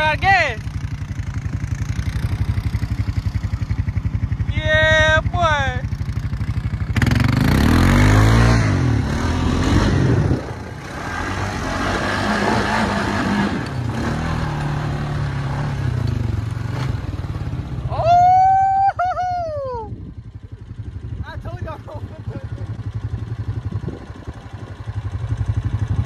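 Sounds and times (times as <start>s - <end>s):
quad engine revving: 0.0s - 26.0s
tires on loose dirt: 0.0s - 26.0s.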